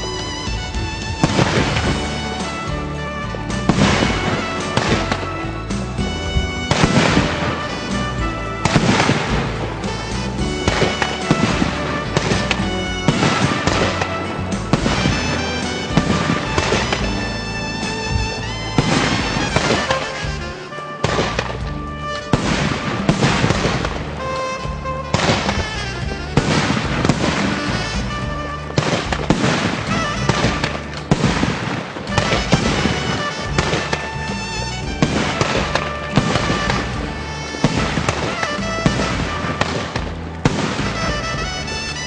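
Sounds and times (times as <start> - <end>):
background music: 0.0 - 42.0
fireworks bangs and crackles: 0.0 - 42.0.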